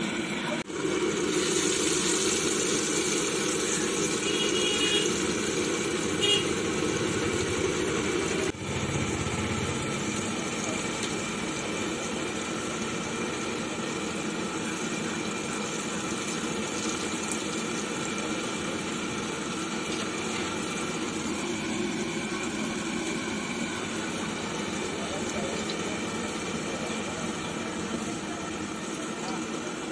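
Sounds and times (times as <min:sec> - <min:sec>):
gas burner flame hissing: 0:00.0 - 0:29.9
oil sizzling while deep-frying: 0:00.0 - 0:29.9.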